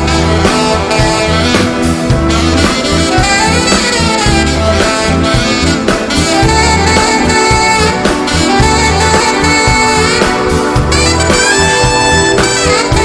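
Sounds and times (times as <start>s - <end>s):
alto saxophone melody: 0.0s - 13.0s
live band with steady beat: 0.0s - 13.0s.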